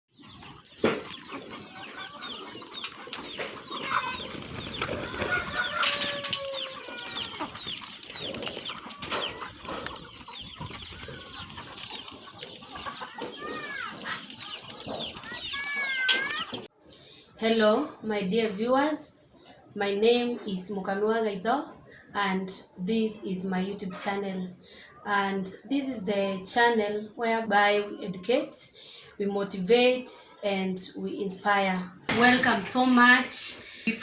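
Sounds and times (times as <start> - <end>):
chickens clucking and calling: 0.1 - 29.6.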